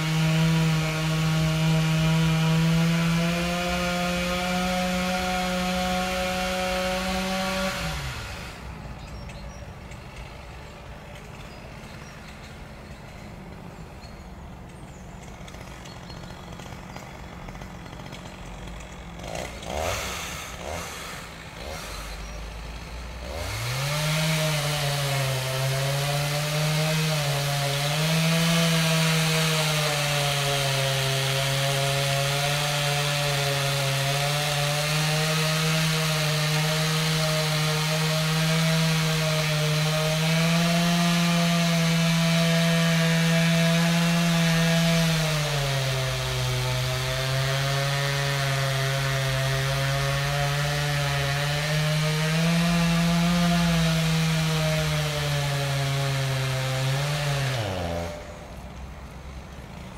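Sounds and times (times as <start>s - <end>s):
chainsaw revving: 0.0s - 59.9s.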